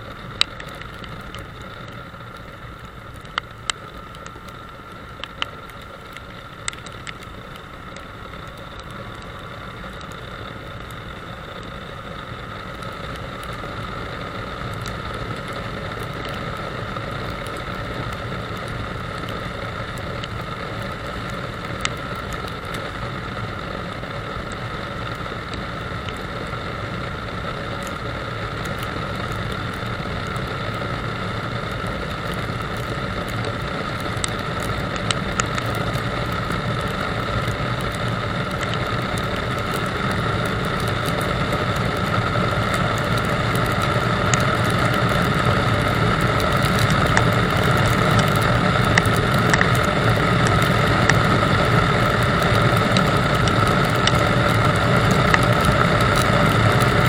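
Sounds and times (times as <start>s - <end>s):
sharp ticks: 0.2s - 23.4s, 27.7s - 57.0s.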